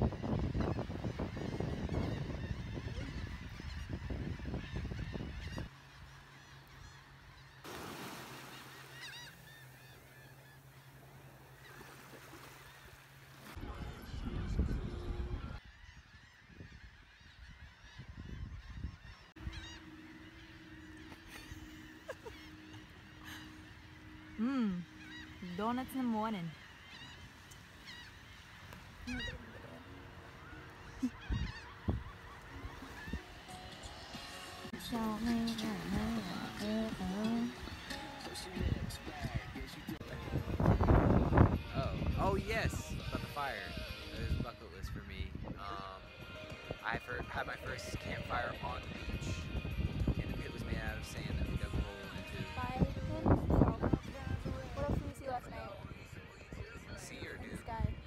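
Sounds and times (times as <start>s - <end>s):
seabirds calling: 0.0s - 58.0s.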